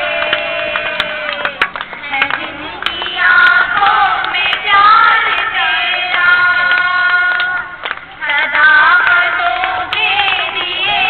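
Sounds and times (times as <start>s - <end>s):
women singing into a microphone: 2.0s - 11.0s.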